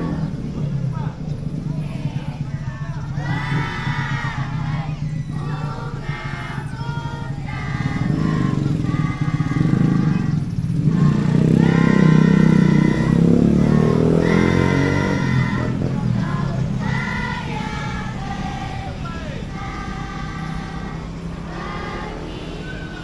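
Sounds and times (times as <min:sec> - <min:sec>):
children singing in unison: 0:00.0 - 0:00.7, 0:01.7 - 0:23.0
engine rumbling: 0:00.0 - 0:23.0.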